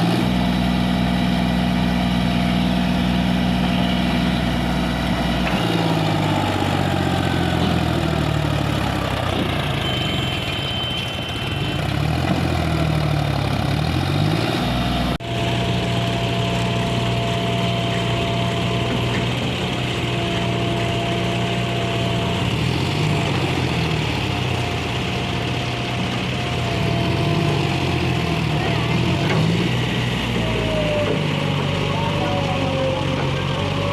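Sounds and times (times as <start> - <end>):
diesel engine working under load: 0.0 - 33.9.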